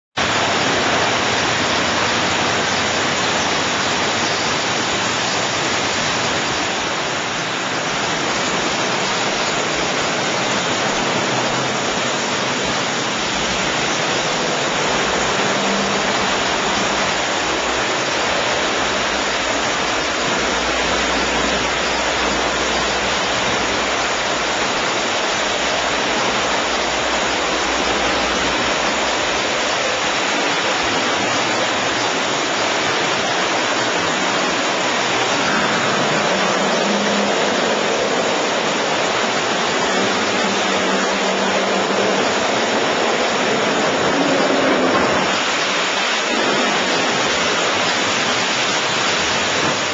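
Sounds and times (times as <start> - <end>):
high-pressure water spray hissing: 0.2 - 49.9.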